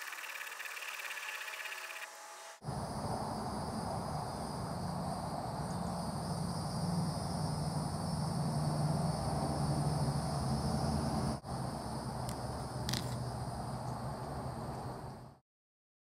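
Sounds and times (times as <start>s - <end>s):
steady background hum: 0.0s - 15.4s.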